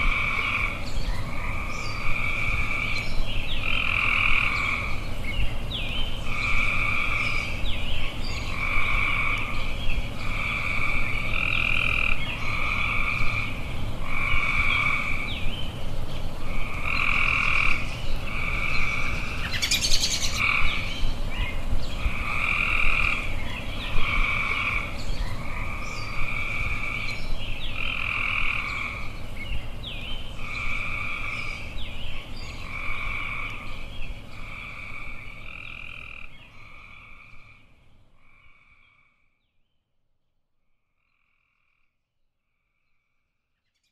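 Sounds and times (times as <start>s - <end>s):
frogs croaking: 0.0s - 15.6s, 16.4s - 39.6s, 40.8s - 43.3s
low background hiss: 0.0s - 39.1s.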